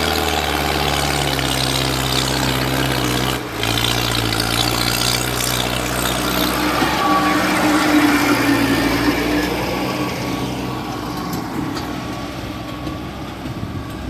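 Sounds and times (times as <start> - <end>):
tractor diesel engine under load: 0.0 - 14.0.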